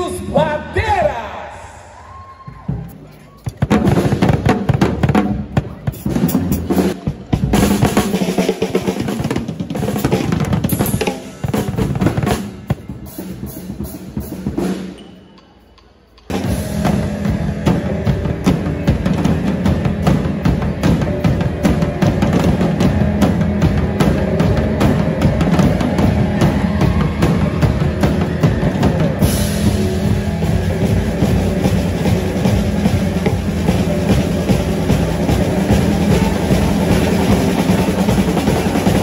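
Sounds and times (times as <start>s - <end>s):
drum kits playing: 2.4s - 39.0s.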